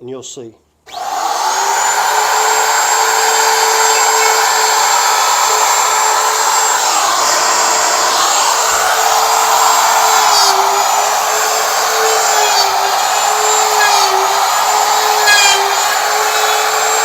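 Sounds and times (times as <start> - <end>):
router high whine: 0.9 - 17.0.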